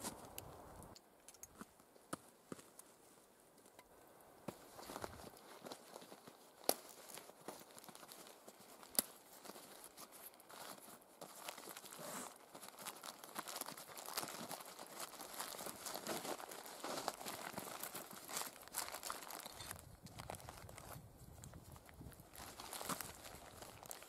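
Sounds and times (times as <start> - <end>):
leather rustling and crinkling: 4.5 - 24.0.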